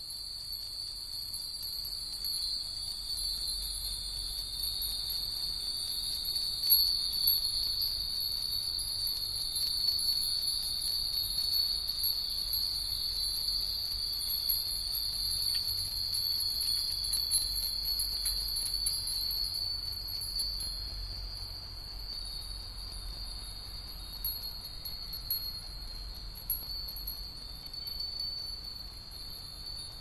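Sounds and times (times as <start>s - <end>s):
wind bells tinkling: 0.0s - 30.0s.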